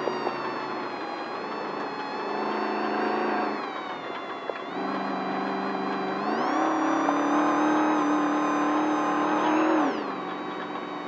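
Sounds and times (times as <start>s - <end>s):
truck engine under power: 0.0s - 11.0s.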